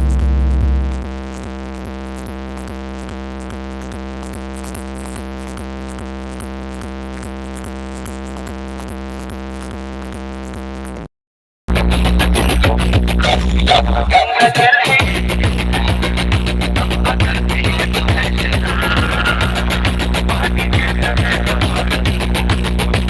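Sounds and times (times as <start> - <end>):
electronic dance music: 0.0 - 11.1, 11.7 - 23.0.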